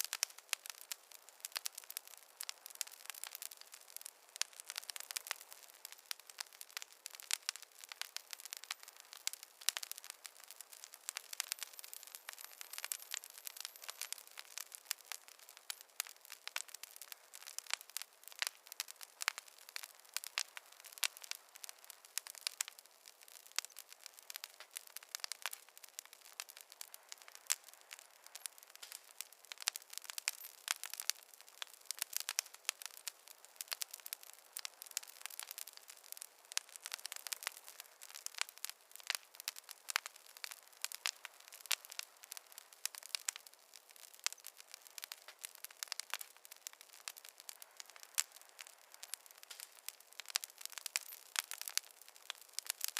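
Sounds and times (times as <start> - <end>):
fire crackling: 0.0 - 52.9.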